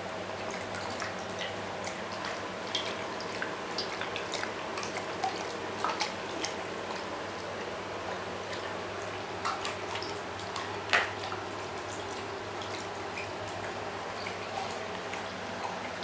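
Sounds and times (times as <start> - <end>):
dog eating wet mouth sounds: 0.3 - 16.0.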